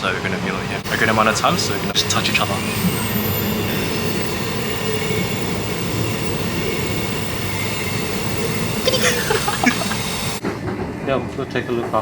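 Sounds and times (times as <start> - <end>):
train rumble and rattle: 0.0 - 12.0
wheels squealing on rails: 0.0 - 12.0.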